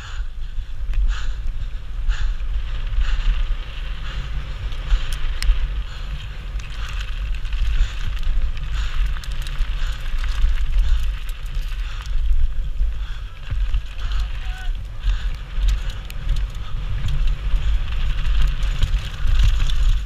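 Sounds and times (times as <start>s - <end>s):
bike rattling: 0.0s - 20.0s
wind rumble on microphone: 0.0s - 20.0s
bike tyres crunching on gravel: 1.8s - 20.0s.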